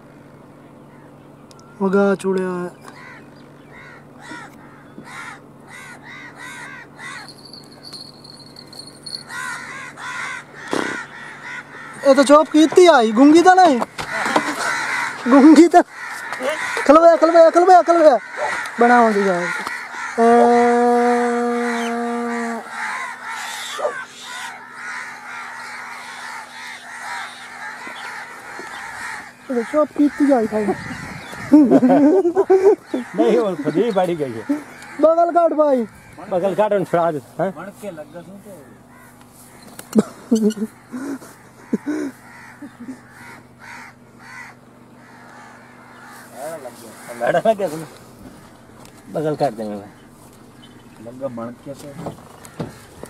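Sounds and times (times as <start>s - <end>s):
bird harsh calls: 0.0s - 53.0s.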